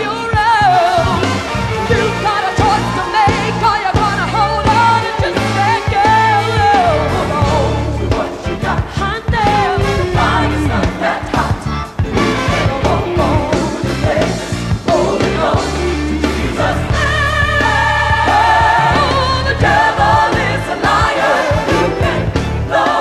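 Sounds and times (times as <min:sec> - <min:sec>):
gospel song with choir and band: 0:00.0 - 0:23.0.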